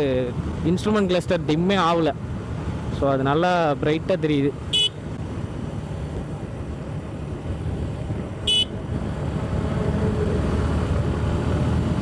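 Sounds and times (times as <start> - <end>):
motorcycle engine and road wind: 0.0 - 12.0.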